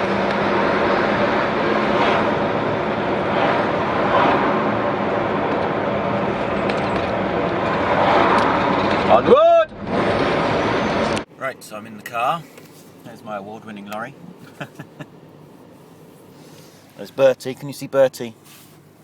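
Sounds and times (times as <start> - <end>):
lorry engine and road noise: 0.0 - 19.0.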